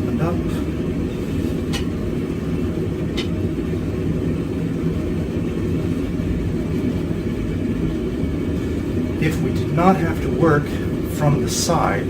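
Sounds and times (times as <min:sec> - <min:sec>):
propane burner roaring: 0:00.0 - 0:12.0.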